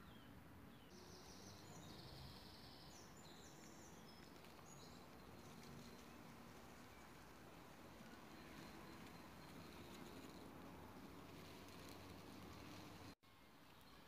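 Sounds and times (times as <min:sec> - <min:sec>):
faint outdoor ambience: 0:00.0 - 0:14.0.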